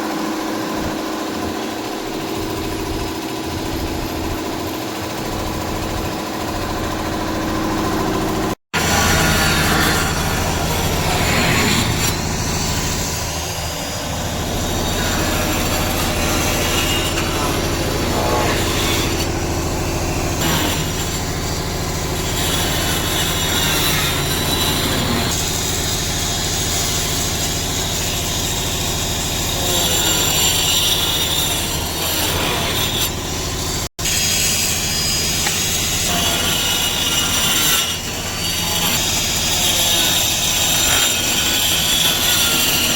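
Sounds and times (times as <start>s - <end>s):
machine humming and grinding: 0.0s - 42.9s.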